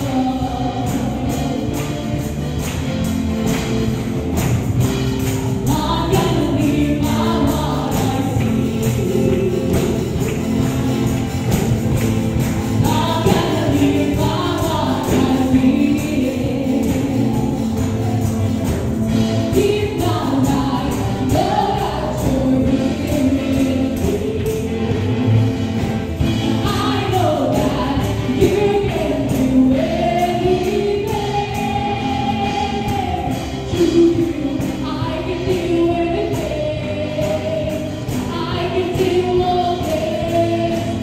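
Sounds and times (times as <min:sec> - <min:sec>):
electric and acoustic guitars: 0:00.0 - 0:41.0
people singing: 0:00.0 - 0:41.0
tambourines shaken: 0:00.0 - 0:41.0.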